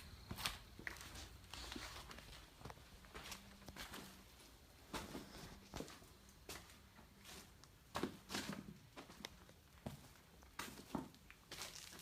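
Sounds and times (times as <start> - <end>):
footsteps on gritty floor: 0.0 - 12.0.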